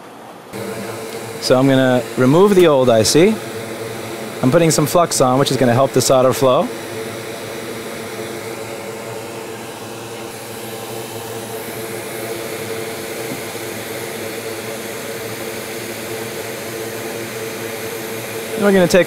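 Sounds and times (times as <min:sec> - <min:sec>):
electric fan whirring hum: 0:00.0 - 0:19.0.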